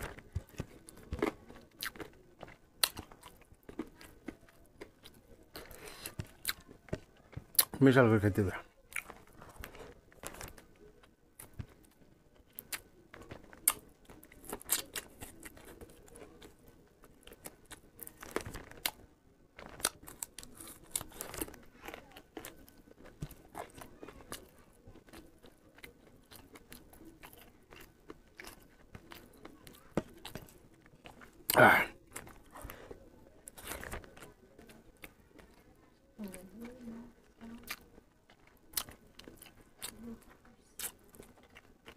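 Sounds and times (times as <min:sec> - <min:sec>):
man chewing and biting food: 0:00.0 - 0:07.8, 0:08.9 - 0:19.0, 0:19.6 - 0:35.6, 0:37.3 - 0:41.9.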